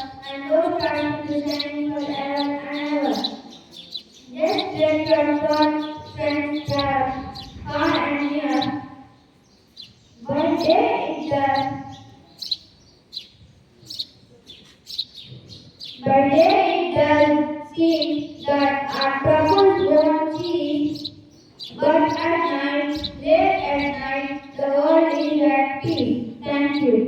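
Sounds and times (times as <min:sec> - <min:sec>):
bird chirps: 0:00.0 - 0:27.0.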